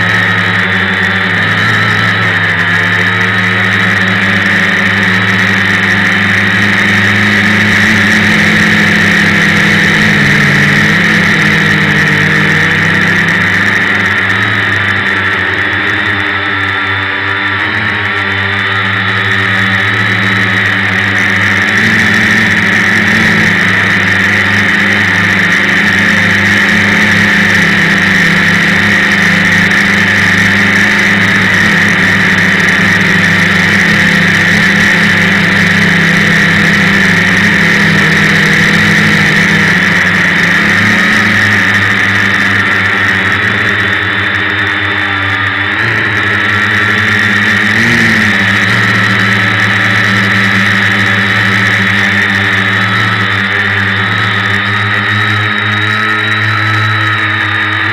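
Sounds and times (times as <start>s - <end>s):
drone motors humming: 0.0s - 57.9s.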